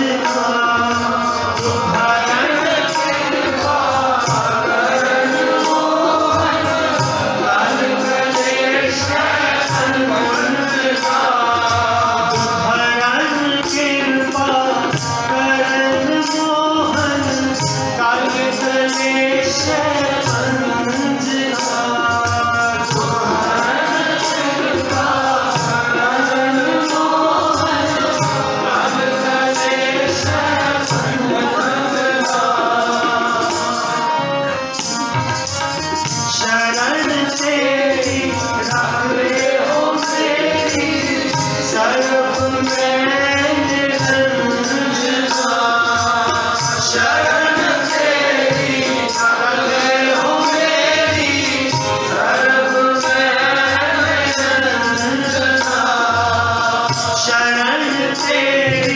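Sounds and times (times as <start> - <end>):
harmonium: 0.0 - 58.9
tabla drums: 0.0 - 58.9
voices singing devotional song: 0.0 - 58.9.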